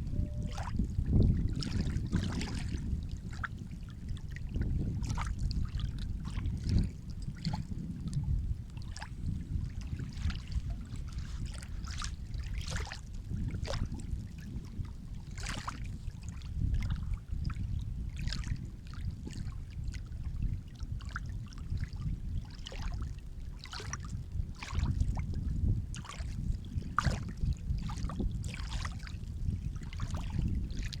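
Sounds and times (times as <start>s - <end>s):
water splashing and trickling: 0.1s - 31.0s.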